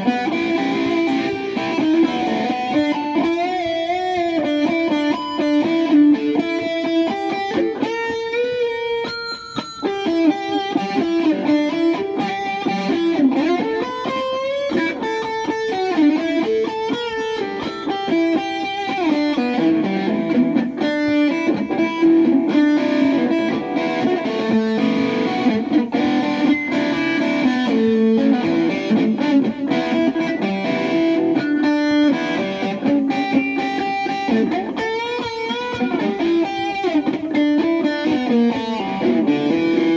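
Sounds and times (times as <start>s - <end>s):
overdriven electric guitar blues: 0.0s - 39.9s.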